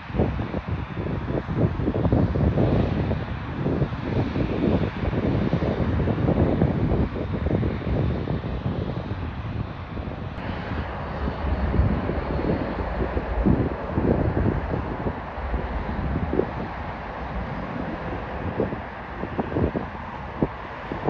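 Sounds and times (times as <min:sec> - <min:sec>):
jet engines at taxi power: 0:00.0 - 0:21.0
wind gusts on microphone: 0:00.0 - 0:21.0.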